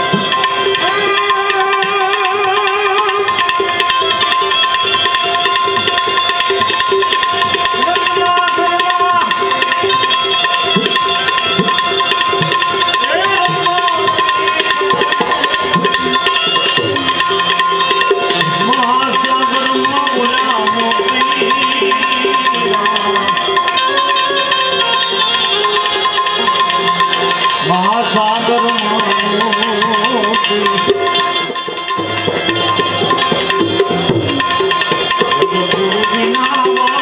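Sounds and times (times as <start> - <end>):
gliding melodic line: 0.0 - 37.0
tabla playing quick rhythm: 0.0 - 37.0.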